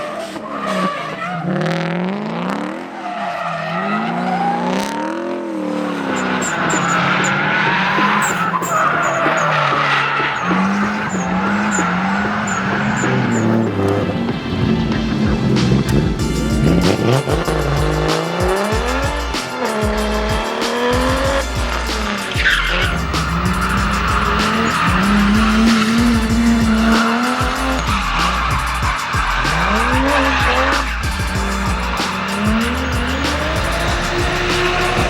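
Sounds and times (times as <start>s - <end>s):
car engine revving: 0.0s - 35.0s
tyres squealing: 5.7s - 35.0s.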